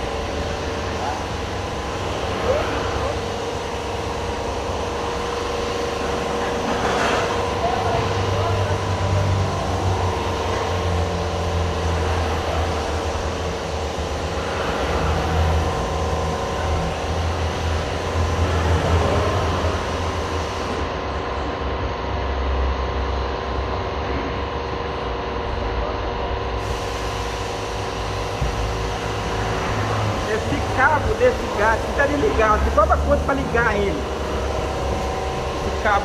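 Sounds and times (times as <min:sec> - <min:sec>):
steady machine hum: 0:00.0 - 0:36.0.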